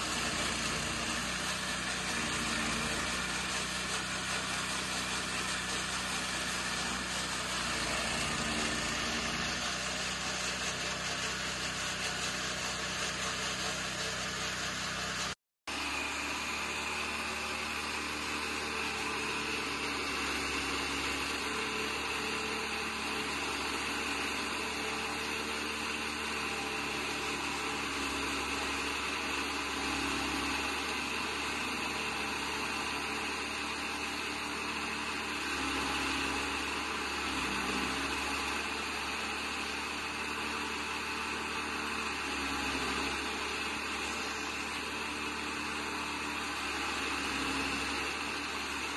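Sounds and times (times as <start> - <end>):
chaff cutter machine running: 0.0 - 48.9.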